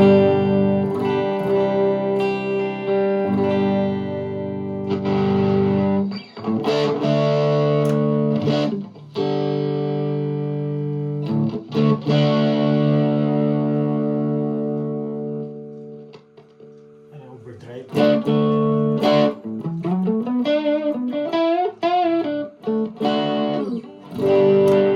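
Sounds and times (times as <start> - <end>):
electric guitar chords strummed: 0.0 - 17.1, 17.8 - 24.9.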